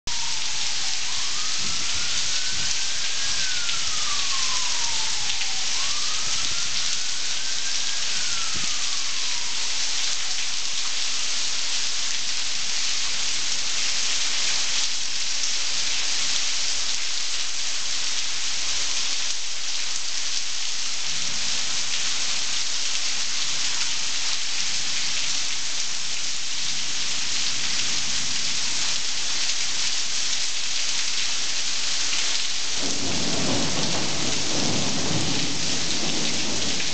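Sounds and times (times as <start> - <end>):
heavy rain pouring: 0.1 - 36.9.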